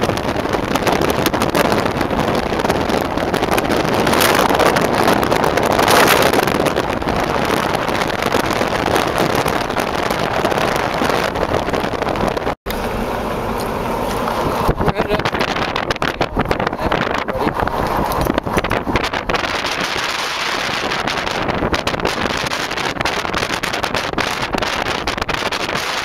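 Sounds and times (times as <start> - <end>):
road noise rushing: 0.0 - 26.0
wind buffeting microphone: 0.0 - 26.0.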